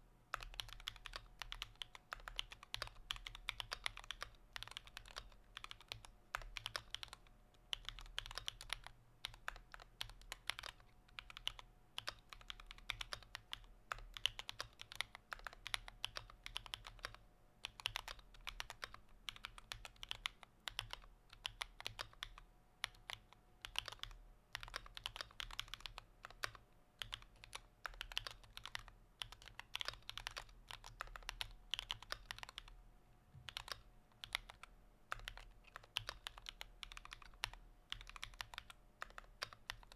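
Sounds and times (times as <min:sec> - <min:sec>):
faint steady hum: 0:00.0 - 0:39.9
typing on computer keyboard: 0:00.3 - 0:32.8, 0:33.5 - 0:39.9.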